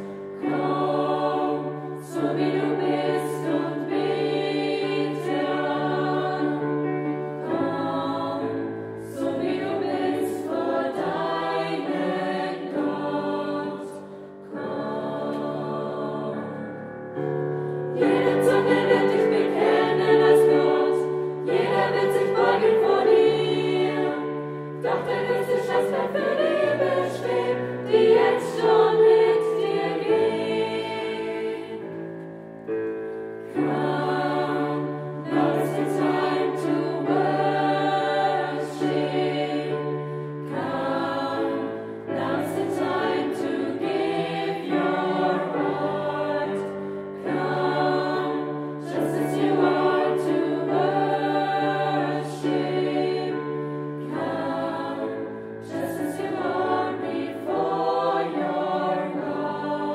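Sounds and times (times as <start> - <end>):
choir singing slow chords: 0.0 - 59.9.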